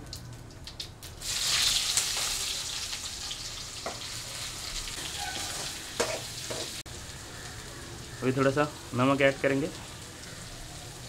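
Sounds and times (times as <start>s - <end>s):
onions sizzling in hot oil: 1.0s - 11.0s.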